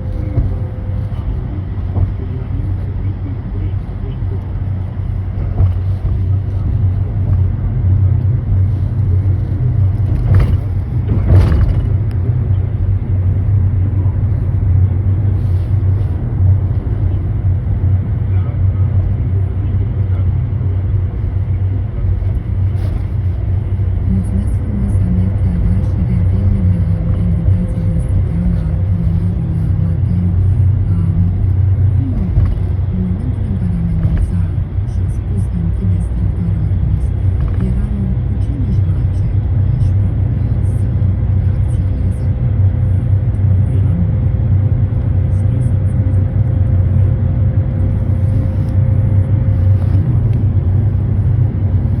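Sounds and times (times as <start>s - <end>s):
car rumbling on road: 0.0s - 52.0s.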